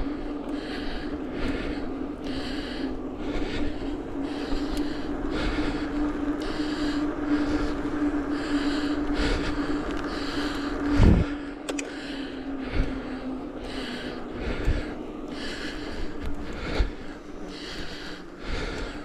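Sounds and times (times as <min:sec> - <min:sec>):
cyclist breathing hard: 0:00.0 - 0:19.0
steady low hum: 0:00.0 - 0:19.0.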